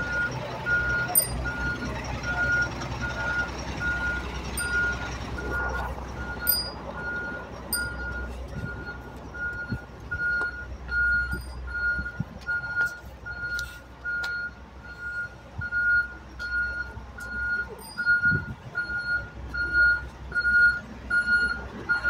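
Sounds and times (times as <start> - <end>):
lorry engine rumble: 0.0 - 22.0
reversing alarm beeping: 0.0 - 22.0.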